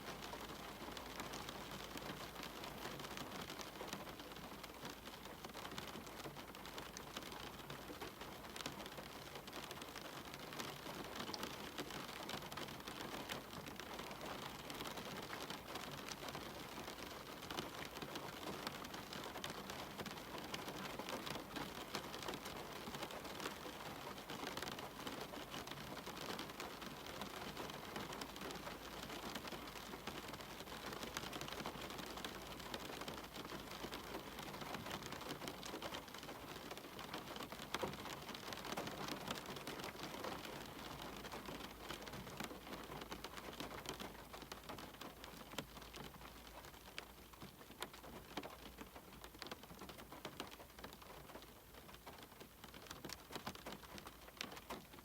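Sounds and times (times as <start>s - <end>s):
steady rain hiss: 0.0s - 55.0s
raindrop ticks: 0.1s - 55.0s.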